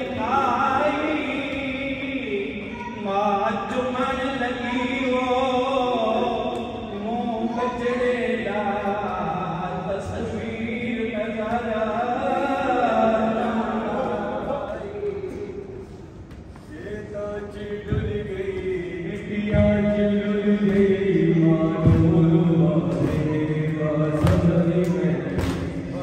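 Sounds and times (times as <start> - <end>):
men chanting a lament: 0.0 - 15.9, 16.6 - 26.0.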